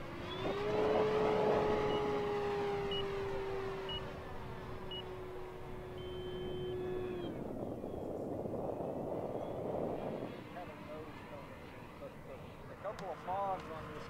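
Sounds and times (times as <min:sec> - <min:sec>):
electric motor and propeller humming: 0:00.0 - 0:14.0.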